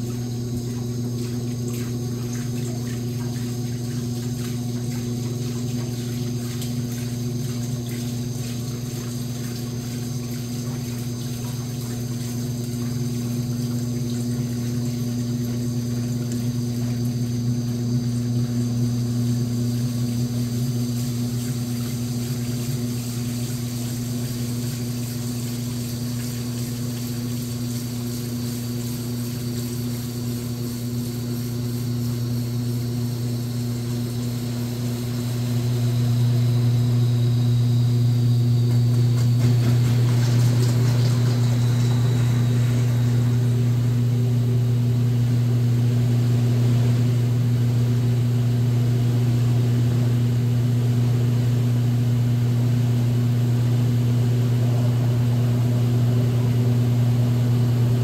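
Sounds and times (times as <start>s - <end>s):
washing machine motor hum: 0.0s - 58.0s
water sloshing in washing machine: 0.0s - 58.0s.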